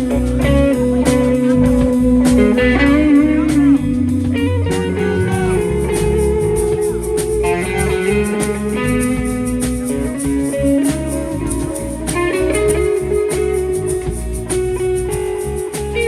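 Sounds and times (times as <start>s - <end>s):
bass guitar: 0.0s - 16.0s
electric guitar lead with bent notes: 0.0s - 16.0s
steady drum beat: 0.0s - 16.0s.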